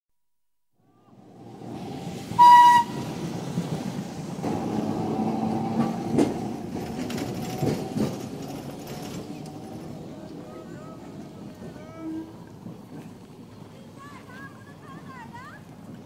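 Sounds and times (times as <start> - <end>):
tram rumbling on rails: 0.8 - 16.0
wheels clacking over rail joints: 1.8 - 16.0.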